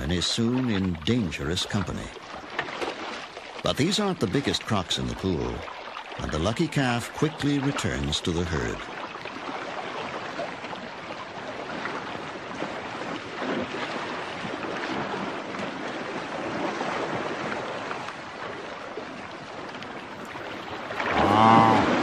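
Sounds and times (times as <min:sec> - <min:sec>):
water splashing and churning: 0:00.0 - 0:22.0.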